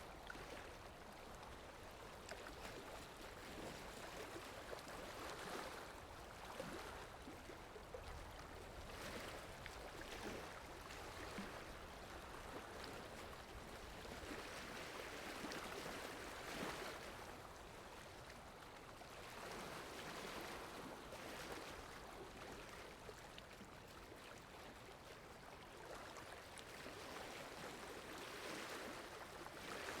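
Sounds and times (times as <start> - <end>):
waves lapping and splashing: 0.0 - 30.0.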